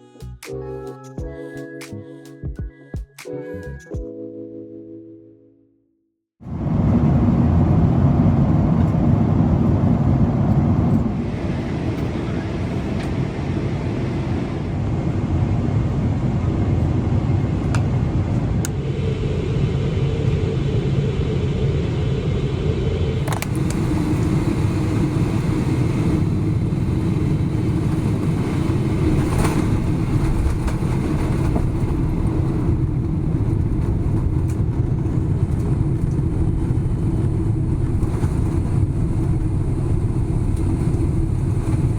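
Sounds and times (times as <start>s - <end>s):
aircraft cabin rumble: 6.4s - 41.9s
steady low hum: 6.7s - 41.9s.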